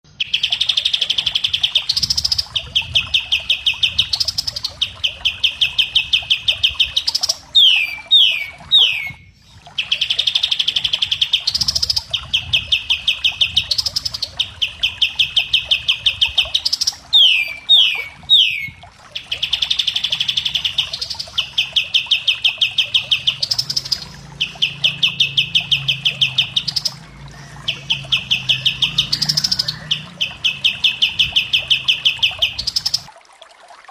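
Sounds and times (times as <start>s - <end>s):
songbird trilling: 0.2s - 33.1s.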